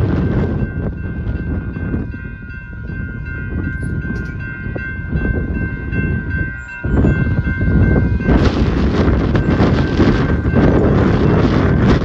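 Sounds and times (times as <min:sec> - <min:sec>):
crossing warning bell ringing: 0:00.0 - 0:12.0
wind rumble on microphone: 0:00.0 - 0:12.0.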